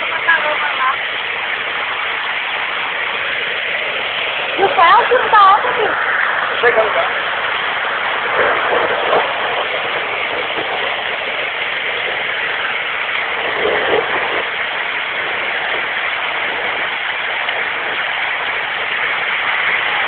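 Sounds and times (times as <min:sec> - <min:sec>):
heavy rain: 0:00.0 - 0:20.0
running floodwater: 0:00.0 - 0:20.0.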